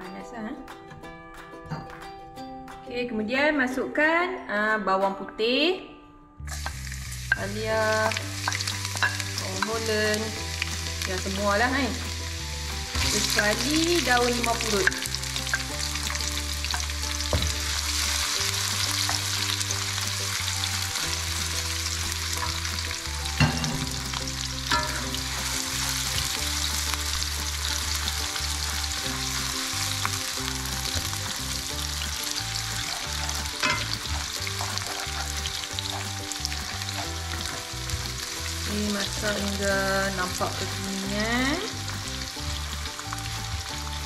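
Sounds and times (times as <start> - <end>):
light background music: 0.0 - 44.0
food sizzling in hot oil: 6.5 - 44.0.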